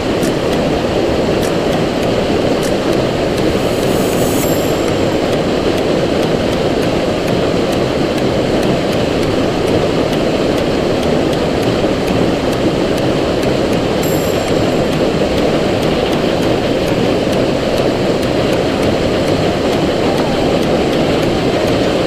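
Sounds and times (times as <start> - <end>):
stream rushing over waterfall: 0.0 - 22.0.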